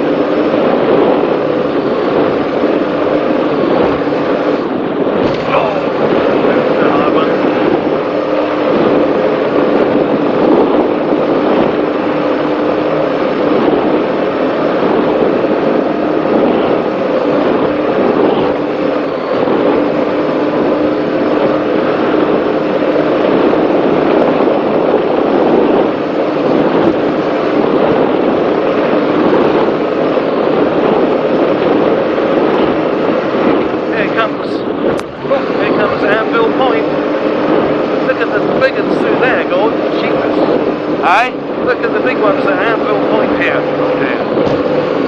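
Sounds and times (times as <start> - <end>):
powerboat engines droning: 0.0 - 45.0
wind and water rushing: 0.0 - 45.0.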